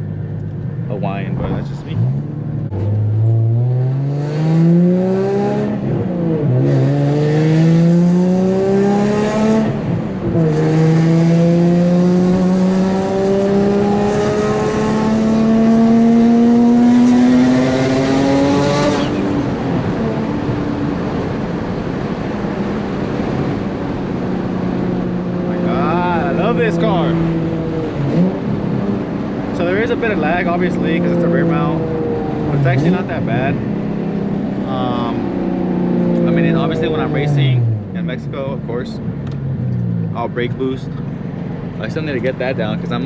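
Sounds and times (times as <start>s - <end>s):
car engine cruising: 0.0s - 43.0s
car engine revving through gears: 1.3s - 43.0s.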